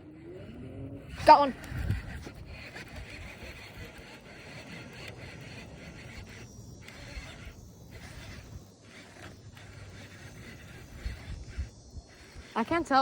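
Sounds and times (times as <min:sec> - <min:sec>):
fishing reel whirring: 0:00.0 - 0:13.0.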